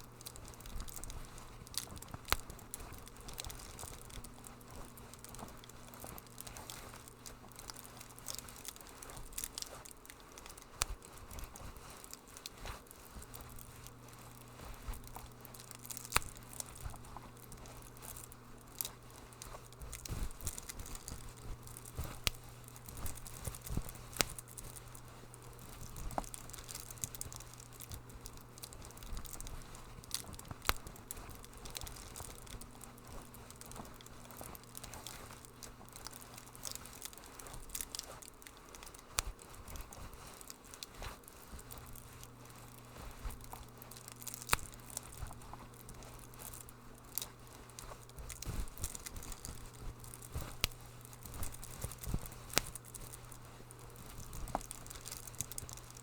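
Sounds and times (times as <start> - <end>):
low steady hum: 0.0 - 56.0
wood fire crackling: 0.0 - 56.0.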